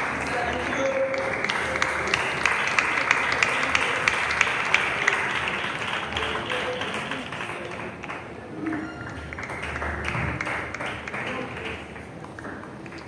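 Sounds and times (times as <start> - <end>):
sharp claps: 0.0 - 8.4, 9.1 - 13.0
crowd applauding: 0.0 - 13.0.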